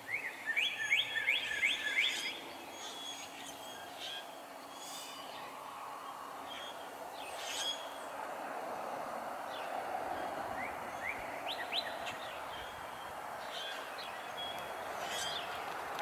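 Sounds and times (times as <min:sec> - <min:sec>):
small birds chirping: 0:00.0 - 0:08.2, 0:09.5 - 0:16.0
steady background hiss: 0:00.0 - 0:16.0.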